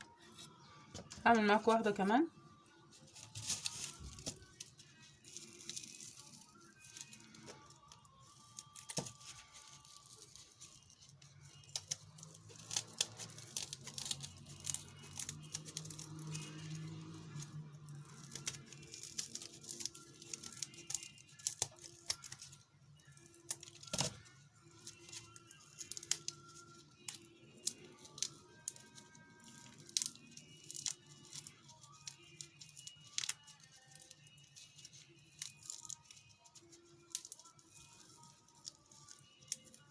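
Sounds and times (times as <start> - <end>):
soft background music: 0.0 - 39.9
shrimp shells cracking and tearing: 3.2 - 39.9.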